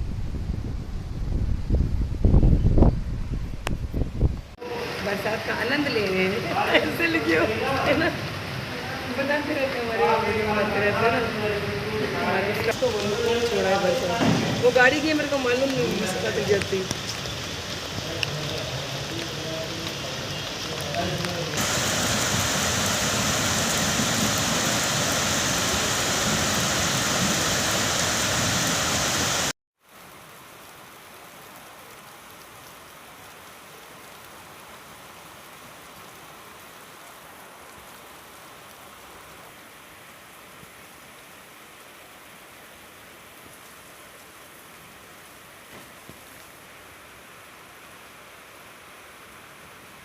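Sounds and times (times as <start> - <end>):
faint rain hiss: 3.6 - 50.0
heavy rain pouring: 3.6 - 50.0.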